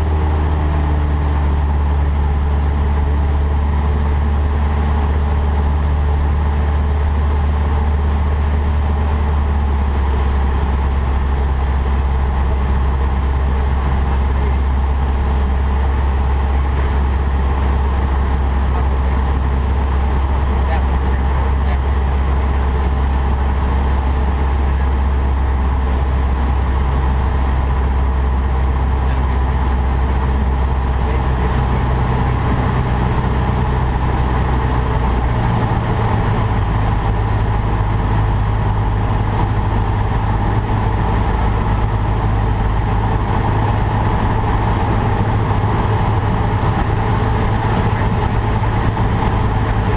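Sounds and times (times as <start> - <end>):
airplane engine and propeller droning: 0.0 - 49.9.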